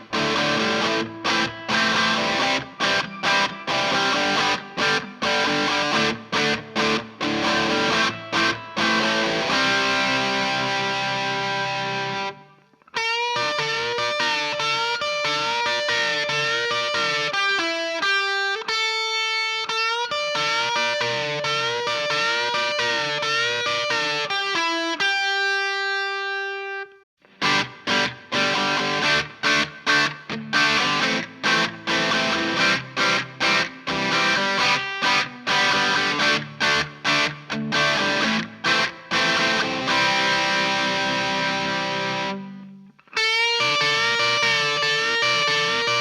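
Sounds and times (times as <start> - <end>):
overdriven electric guitar: 0.0 - 46.0.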